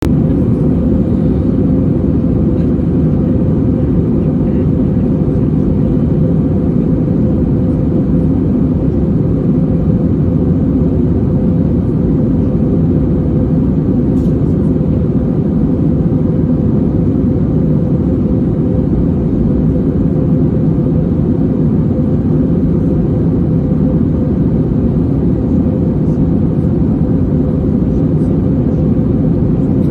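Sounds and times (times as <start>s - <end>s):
airliner engine rumble: 0.0s - 29.9s.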